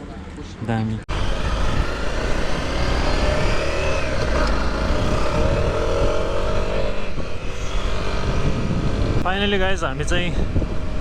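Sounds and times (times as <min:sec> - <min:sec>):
motorcycle engine accelerating: 0:01.1 - 0:11.0
wind noise on microphone: 0:01.1 - 0:11.0.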